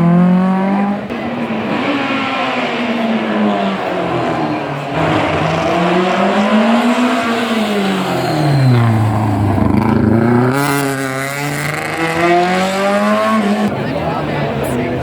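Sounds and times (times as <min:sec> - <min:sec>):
rally car engine revving: 0:00.0 - 0:13.7.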